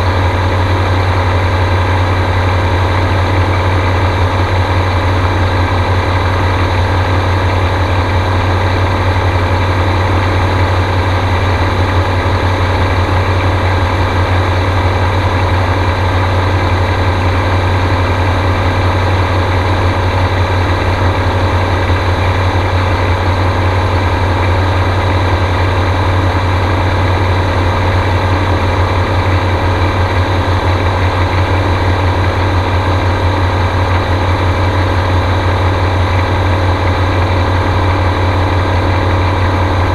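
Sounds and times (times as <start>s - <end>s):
gyrocopter engine and propeller drone: 0.0s - 39.9s.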